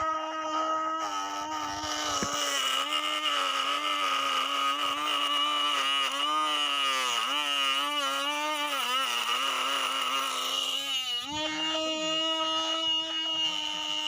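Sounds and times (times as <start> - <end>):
small motor whining: 0.0 - 14.0.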